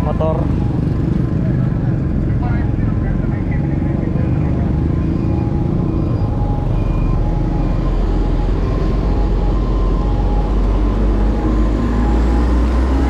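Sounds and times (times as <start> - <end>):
passing vehicle engines: 0.0 - 13.0.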